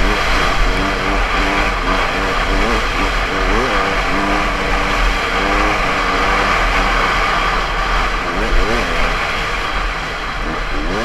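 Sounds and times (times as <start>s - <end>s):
dirt bike engine revving: 0.0s - 11.0s
wind rush on microphone: 0.0s - 11.0s.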